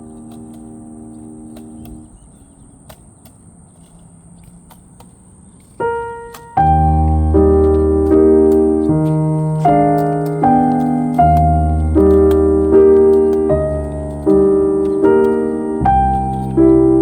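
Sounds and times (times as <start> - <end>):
soft held chord: 0.0 - 2.8, 5.8 - 17.0
piano notes and chords: 0.0 - 17.0.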